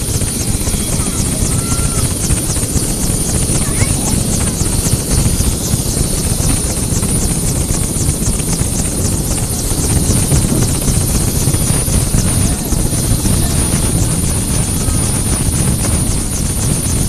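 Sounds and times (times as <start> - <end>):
helicopter turbine whine: 0.0 - 17.0
rotor pulsing rumble: 0.0 - 17.0.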